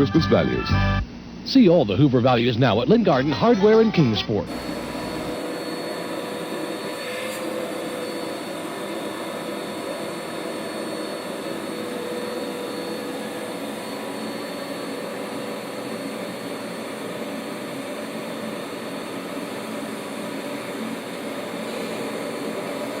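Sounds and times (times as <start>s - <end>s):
vacuum cleaner motor running: 4.5s - 23.0s.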